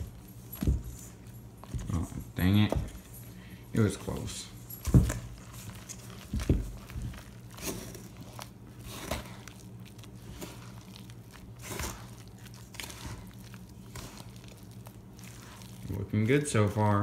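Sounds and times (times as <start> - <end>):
batter mixed in a bowl: 0.0 - 17.0.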